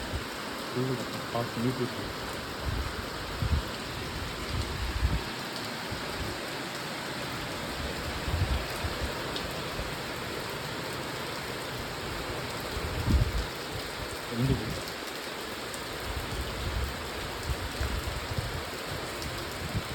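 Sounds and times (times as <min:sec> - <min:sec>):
steady rain hiss: 0:00.0 - 0:19.9.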